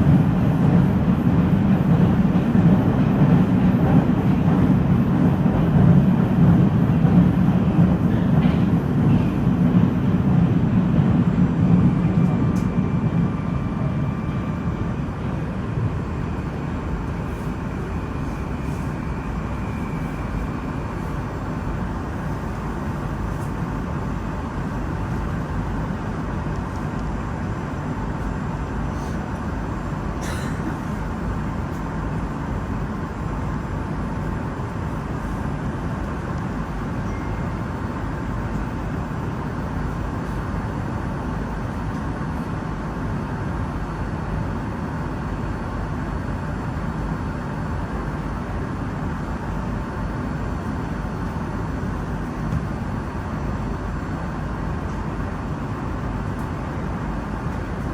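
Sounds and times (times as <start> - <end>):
train rumbling: 0.0 - 57.9.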